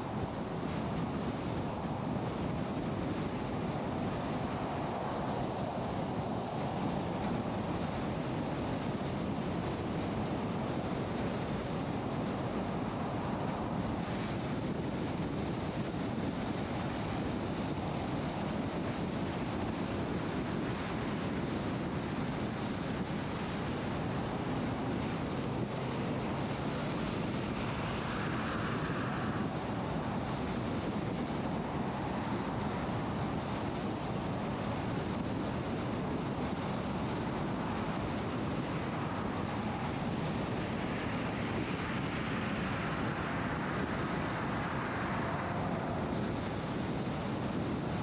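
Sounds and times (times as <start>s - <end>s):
wind noise past car: 0.0s - 48.0s.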